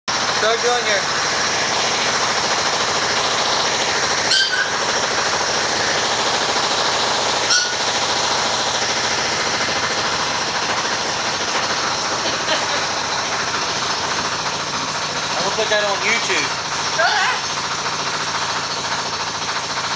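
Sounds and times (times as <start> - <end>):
jackhammer hammering: 0.1 - 19.9.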